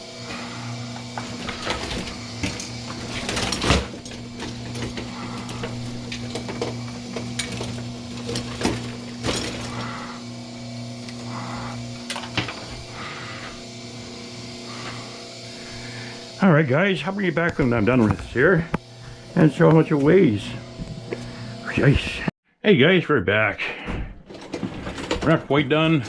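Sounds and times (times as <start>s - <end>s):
machine motor humming: 0.0s - 22.3s, 24.3s - 26.0s.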